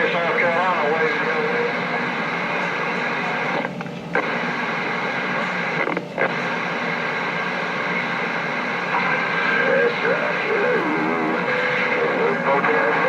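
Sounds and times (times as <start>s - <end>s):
faint jumbled radio signals: 0.0s - 13.0s
radio static hiss: 0.0s - 13.0s.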